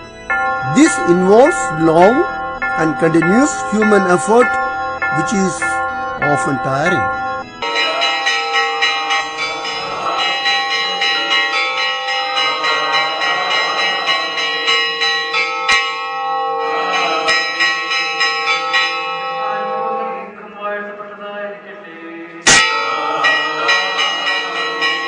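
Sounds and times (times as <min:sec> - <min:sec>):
church bells ringing together: 0:00.0 - 0:20.6, 0:22.5 - 0:25.0.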